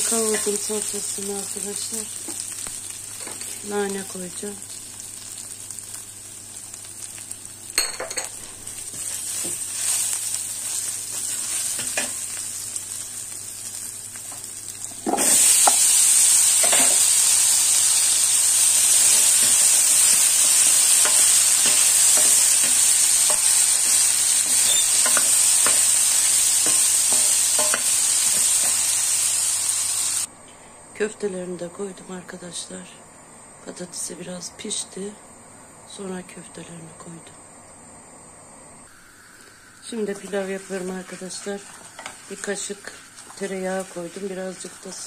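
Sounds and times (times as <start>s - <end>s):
food sizzling in oil: 0.0s - 30.3s, 38.9s - 45.0s.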